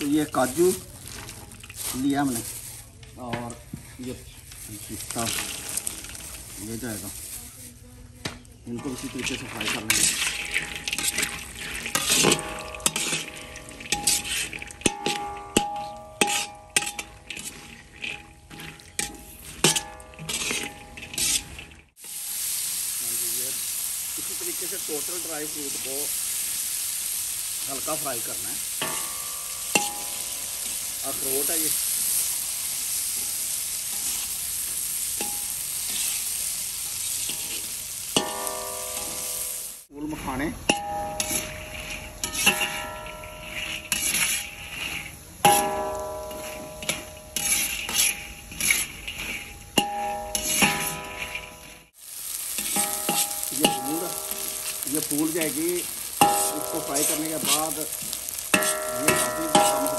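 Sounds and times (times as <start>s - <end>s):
wok ringing: 0.0s - 7.4s, 8.6s - 22.4s, 23.0s - 59.9s
sizzling hiss: 0.0s - 59.9s
skimmer scraping and knocking wok: 0.0s - 59.9s.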